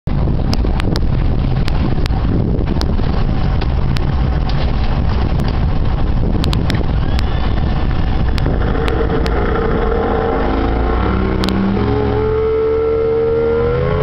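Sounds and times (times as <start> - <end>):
boat engine rumble: 0.0 - 14.0
wind noise on microphone: 0.0 - 14.0.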